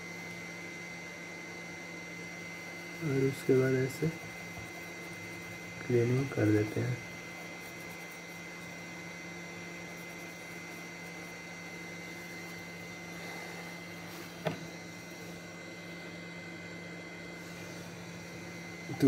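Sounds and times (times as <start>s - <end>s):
electrical hum with high whine: 0.0s - 19.0s.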